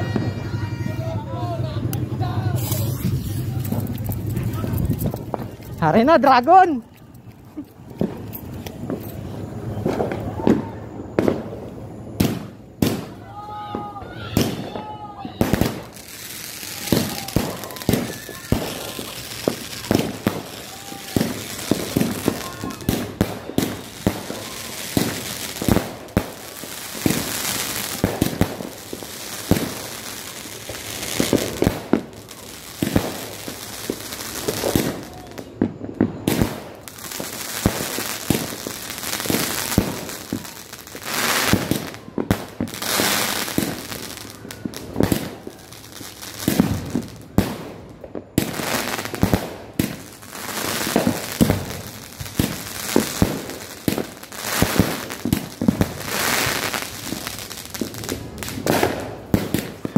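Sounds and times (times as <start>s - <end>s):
fireworks bursting bangs: 0.0s - 59.9s.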